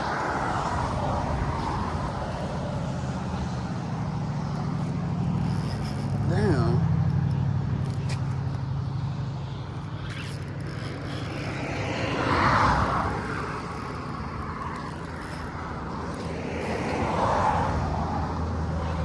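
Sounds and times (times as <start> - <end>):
steady traffic rush: 0.0 - 19.0
vehicles passing: 0.0 - 19.0.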